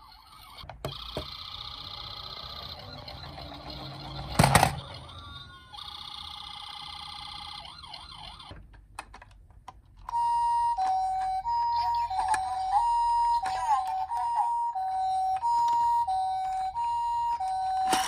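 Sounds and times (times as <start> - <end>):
toy electronic siren: 0.0 - 8.6, 10.1 - 18.0.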